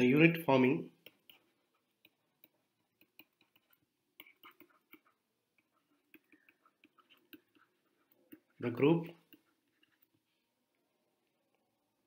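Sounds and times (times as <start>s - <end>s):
stylus tapping tablet screen: 0.5s - 10.4s.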